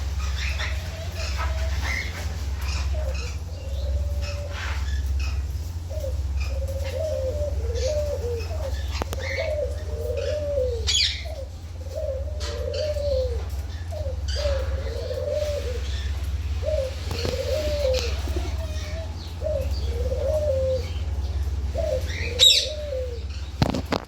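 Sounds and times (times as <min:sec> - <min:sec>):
low wavering bird call: 0:00.0 - 0:23.6.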